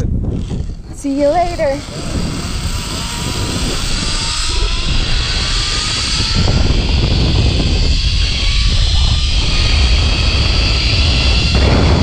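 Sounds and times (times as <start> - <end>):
wind rumble on microphone: 0.0 - 12.0
zipline pulleys whirring: 0.4 - 12.0.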